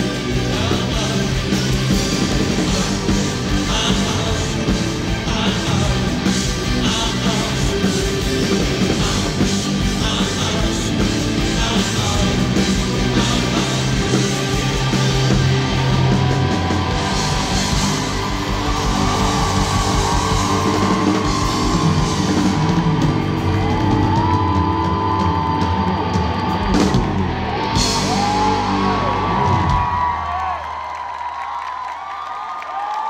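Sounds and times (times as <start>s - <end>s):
live rock band playing: 0.0s - 30.1s.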